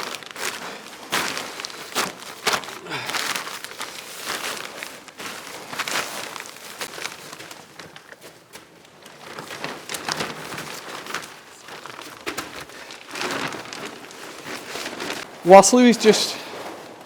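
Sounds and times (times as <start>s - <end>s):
plastic sheeting rustling and crinkling: 0.0s - 17.0s.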